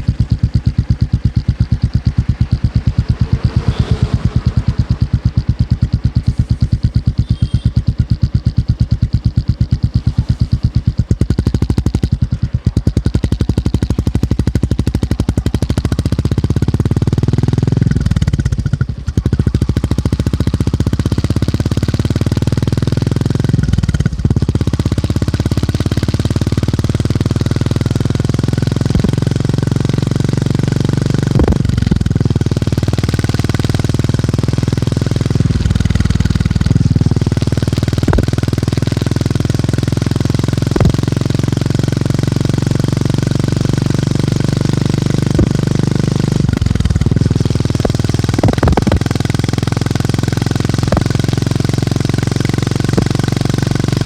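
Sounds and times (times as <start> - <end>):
motorcycle engine thumping: 0.0 - 54.0.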